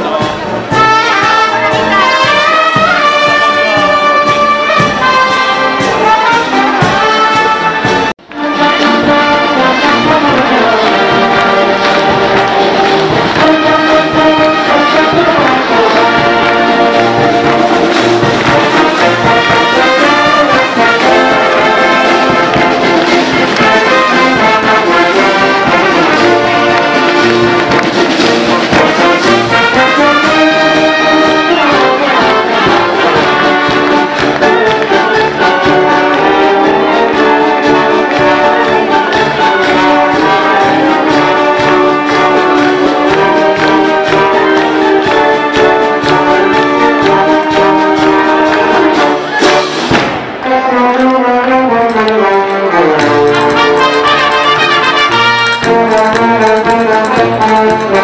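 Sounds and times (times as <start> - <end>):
wind band playing: 0.0 - 58.0.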